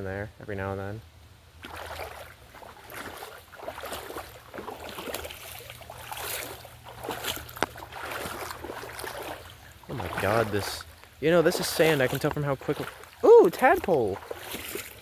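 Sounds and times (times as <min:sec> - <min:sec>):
footsteps splashing through shallow water: 0:01.5 - 0:15.0.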